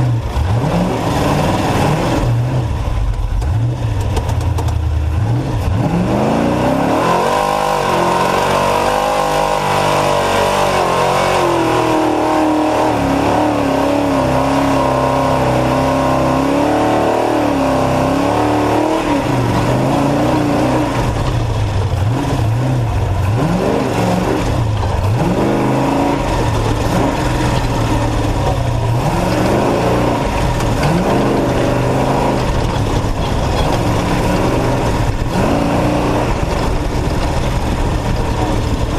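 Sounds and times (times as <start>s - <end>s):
truck engine revving: 0.0s - 38.9s.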